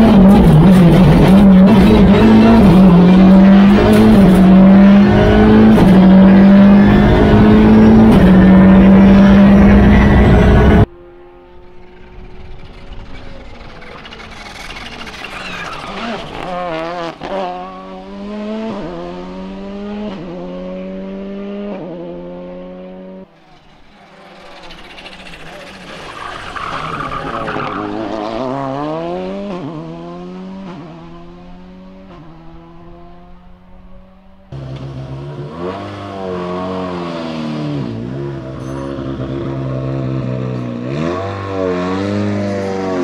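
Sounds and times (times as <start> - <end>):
rally car accelerating with upshifts: 0.0 - 43.0.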